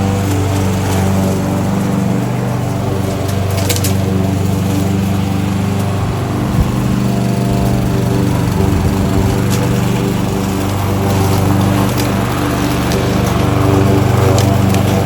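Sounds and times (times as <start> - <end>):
lawnmower engine running: 0.0 - 15.0.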